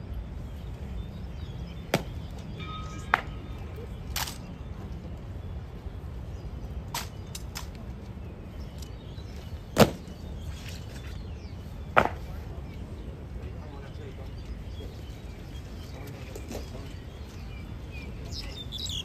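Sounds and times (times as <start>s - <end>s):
outdoor background hum: 0.0s - 19.0s.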